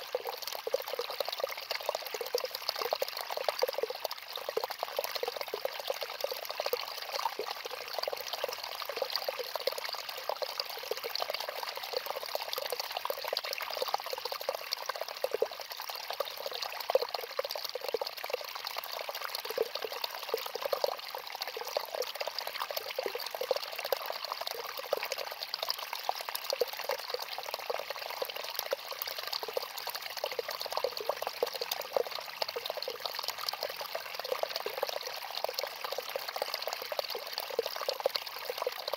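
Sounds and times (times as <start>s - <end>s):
trickling running water: 0.0s - 38.9s.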